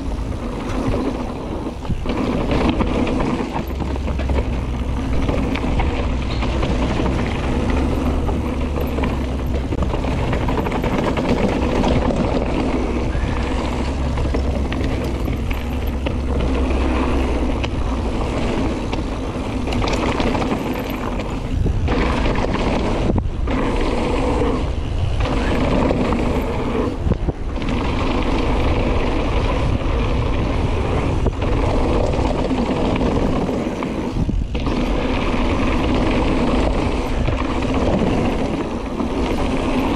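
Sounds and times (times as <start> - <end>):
bike rattling: 0.0 - 39.9
bike tyres rumbling on dirt trail: 0.0 - 39.9
wind buffeting microphone: 0.0 - 39.9.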